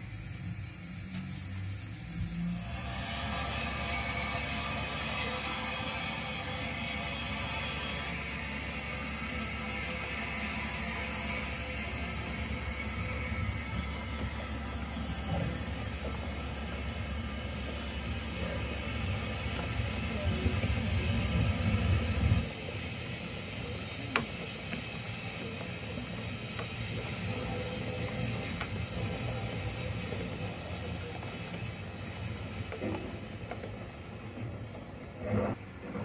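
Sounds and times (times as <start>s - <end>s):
model train rumbling on track: 0.0s - 36.0s
steady hiss: 0.0s - 36.0s.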